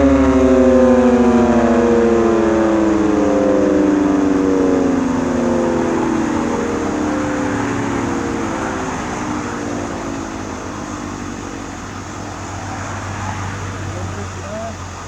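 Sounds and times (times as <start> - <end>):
steady low hum: 0.0 - 15.0
warning siren winding down: 0.0 - 15.0.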